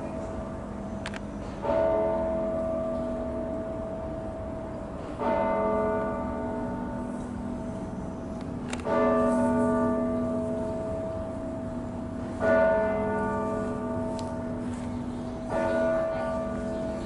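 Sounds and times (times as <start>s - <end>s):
large church bell tolling: 0.0s - 17.0s.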